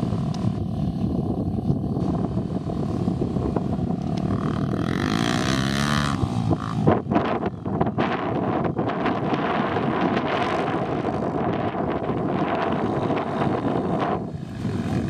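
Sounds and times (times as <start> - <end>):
dirt bike riding past: 0.0 - 15.0.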